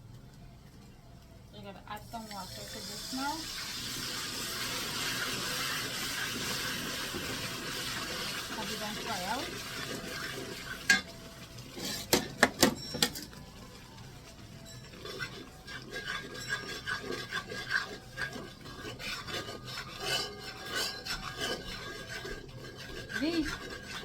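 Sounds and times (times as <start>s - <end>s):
spoon scraping a cooking pot: 2.0s - 13.4s, 14.3s - 24.0s.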